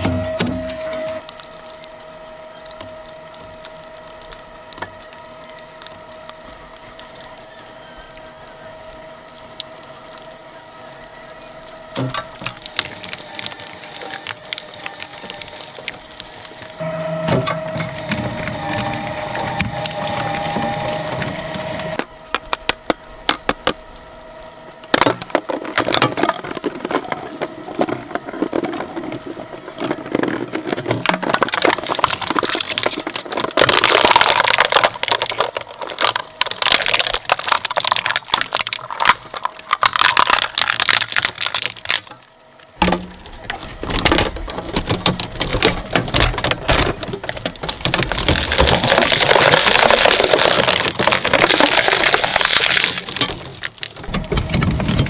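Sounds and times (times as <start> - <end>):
shredder crunching toys: 0.0 - 55.0.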